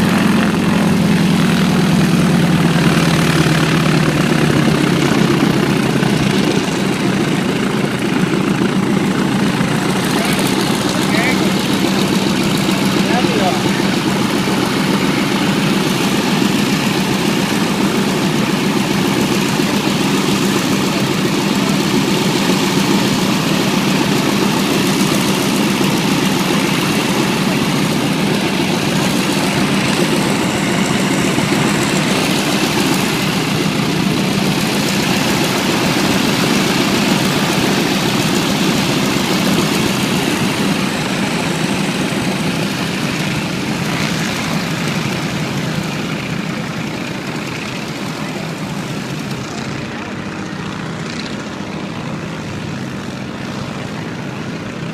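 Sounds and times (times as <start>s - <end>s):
engine drone: 0.0s - 54.9s.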